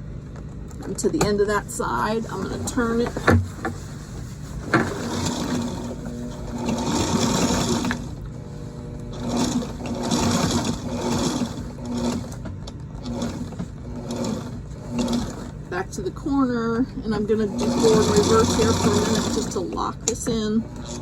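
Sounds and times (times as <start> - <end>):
sewing machine motor humming: 0.7 - 21.0.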